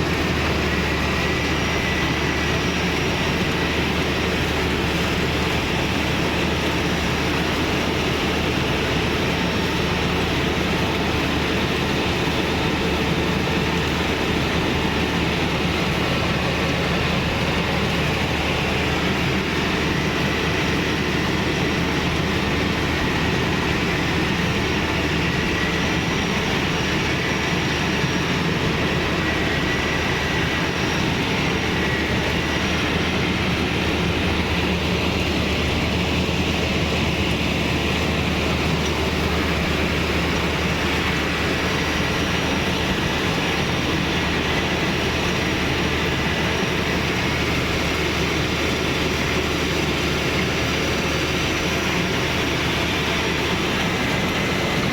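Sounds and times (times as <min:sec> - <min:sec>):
rice thresher running: 0:00.0 - 0:54.9.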